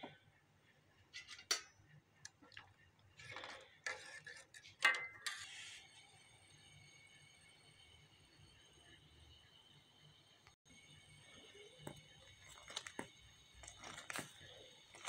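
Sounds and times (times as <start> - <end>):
milk tea boiling with pops: 1.4 - 5.4, 6.0 - 15.0.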